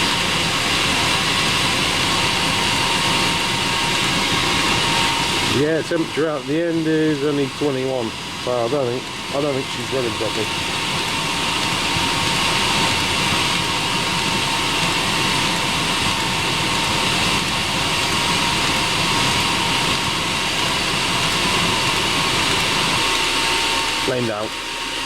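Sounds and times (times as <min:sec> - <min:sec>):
heater blower fan rushing: 0:00.0 - 0:25.0.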